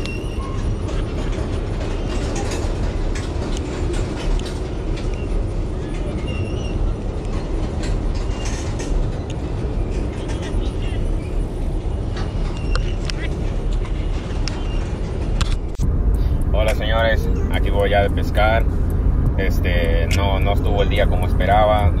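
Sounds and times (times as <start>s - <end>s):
freight train rumbling over bridge: 0.0s - 22.0s.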